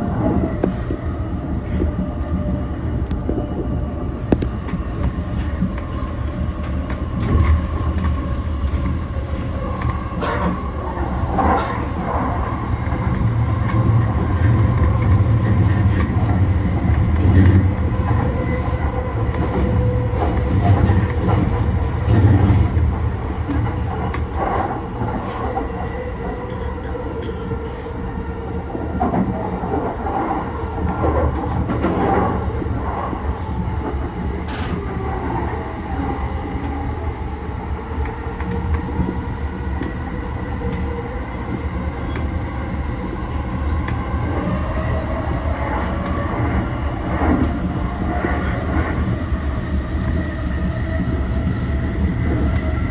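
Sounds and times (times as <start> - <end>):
train wheels rumbling on rail: 0.0 - 52.9
rail joint clicks: 1.7 - 35.6, 37.9 - 52.8.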